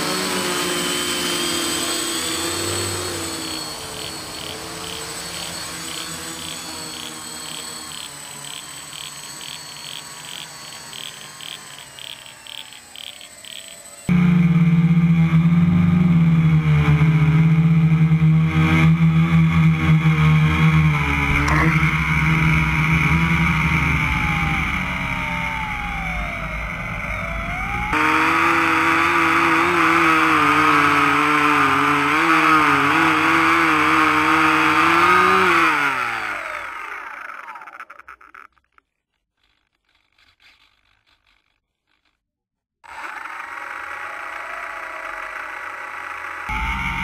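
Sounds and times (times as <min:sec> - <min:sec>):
electric boat motor drone: 0:00.0 - 0:38.8, 0:42.8 - 0:47.0.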